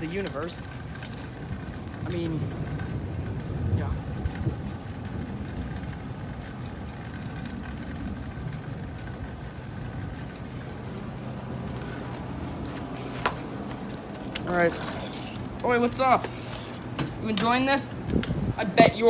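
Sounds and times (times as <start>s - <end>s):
thunderstorm rumble: 0.0s - 15.8s.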